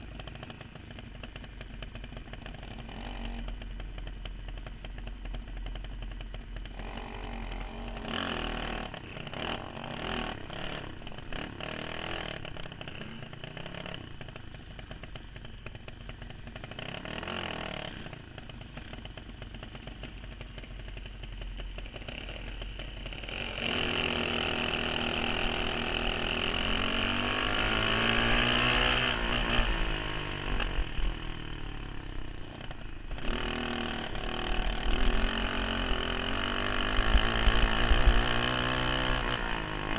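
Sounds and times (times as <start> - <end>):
kart engine revving: 0.1 - 39.9.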